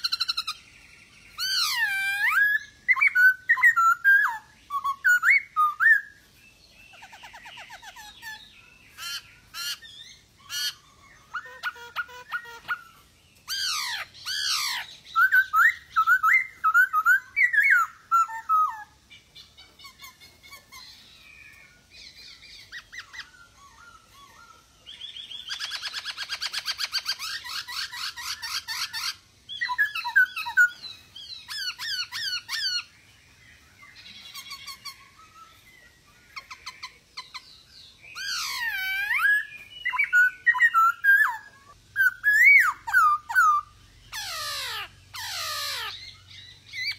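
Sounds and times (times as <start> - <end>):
bird singing whistled phrases: 0.0 - 6.2, 6.9 - 33.0, 33.8 - 46.9.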